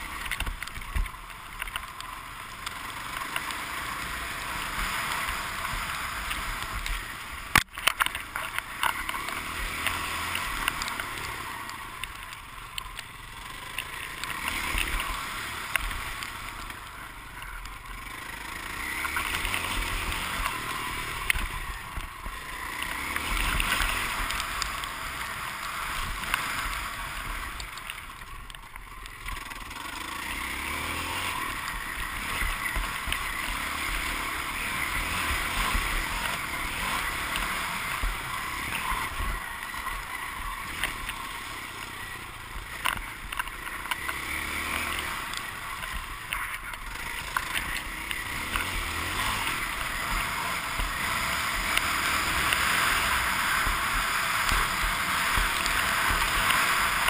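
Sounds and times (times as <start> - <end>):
motocross bike engine revving: 1.6 - 57.0.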